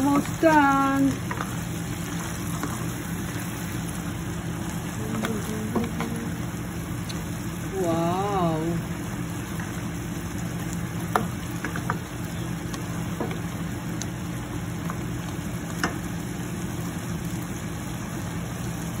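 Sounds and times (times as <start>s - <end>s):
low steady hum: 0.0s - 19.0s
shrimp sizzling in frying pan: 0.0s - 19.0s.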